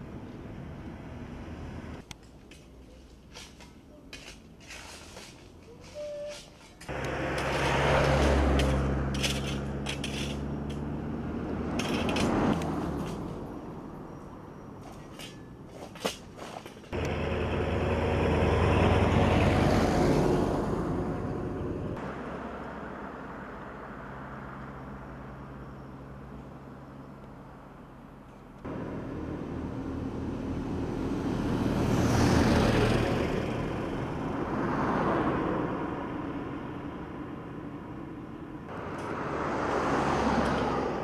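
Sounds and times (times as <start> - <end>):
vehicles passing on highway: 0.0 - 41.0.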